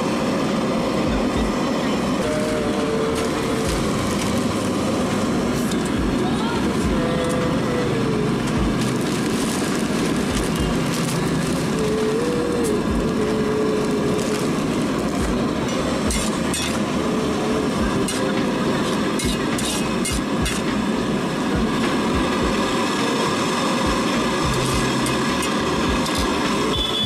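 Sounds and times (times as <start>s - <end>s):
loud background rush: 0.0s - 27.0s.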